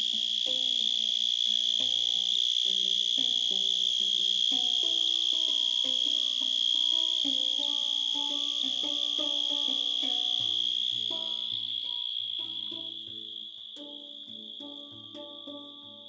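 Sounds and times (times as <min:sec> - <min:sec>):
handpan notes: 0:00.0 - 0:16.0
insects trilling: 0:00.0 - 0:16.0.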